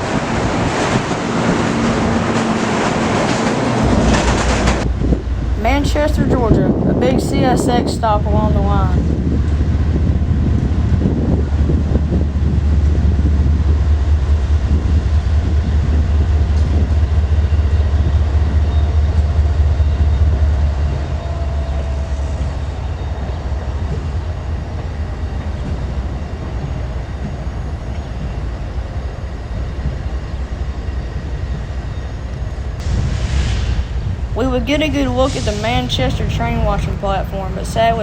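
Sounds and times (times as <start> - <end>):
train passing with low rumble: 0.0 - 38.0.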